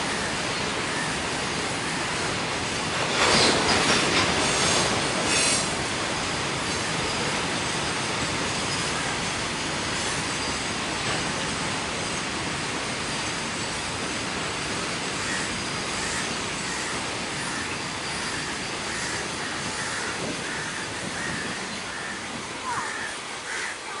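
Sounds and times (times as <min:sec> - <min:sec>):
freight train rolling past: 0:00.0 - 0:23.9.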